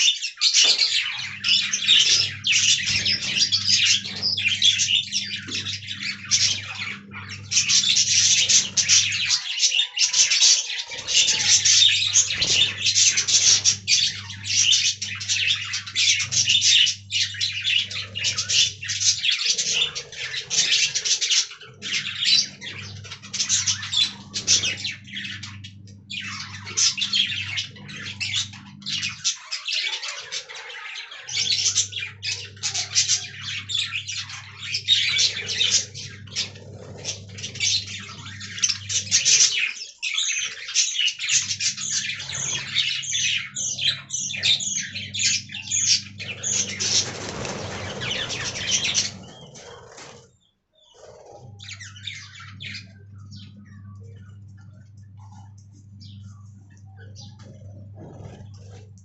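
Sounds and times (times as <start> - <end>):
budgerigars chattering: 0.0 - 59.0
steady low hum: 0.9 - 9.4, 10.7 - 29.3, 31.4 - 39.6, 41.2 - 59.0.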